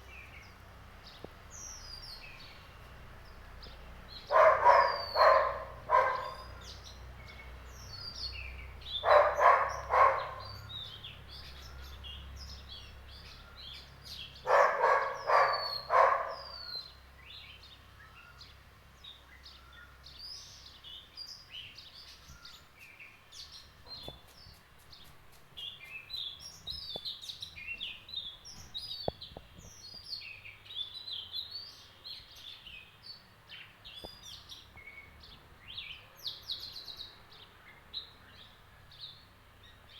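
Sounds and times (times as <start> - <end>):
rapid repeated bird calls: 0.0 - 39.9
small birds chirping and whistling: 3.7 - 37.4.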